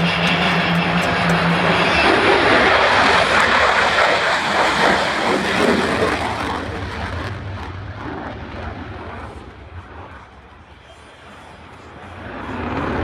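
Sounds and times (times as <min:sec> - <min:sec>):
jet engine roaring: 0:00.0 - 0:13.0.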